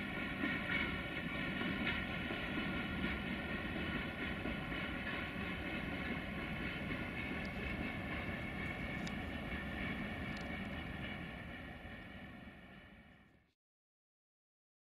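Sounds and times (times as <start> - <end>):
diesel locomotive engine rumbling: 0.0 - 13.5.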